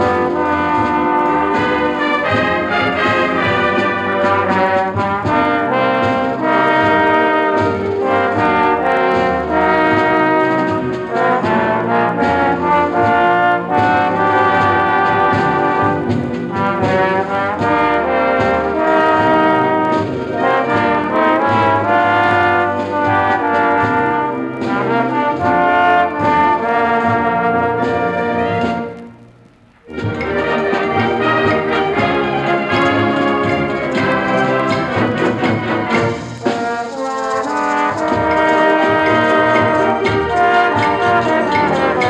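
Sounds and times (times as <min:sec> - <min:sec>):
brass band playing chords: 0:00.0 - 0:42.0.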